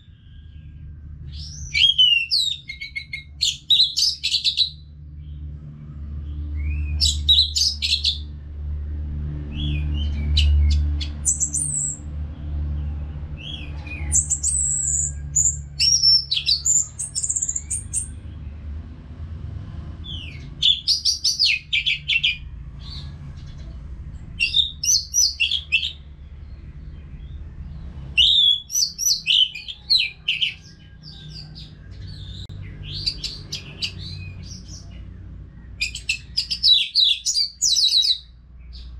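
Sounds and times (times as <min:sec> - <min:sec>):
low steady rumble: 0:00.0 - 0:36.5.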